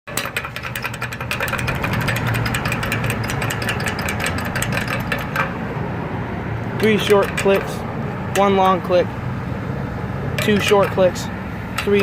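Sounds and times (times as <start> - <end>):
idling traffic hum: 0.1 - 12.0.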